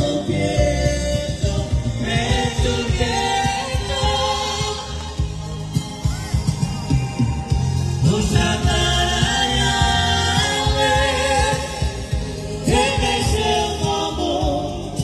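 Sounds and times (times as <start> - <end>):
man singing through microphones: 0.0 - 5.4, 7.9 - 15.0
bass and drum beat: 0.0 - 15.0.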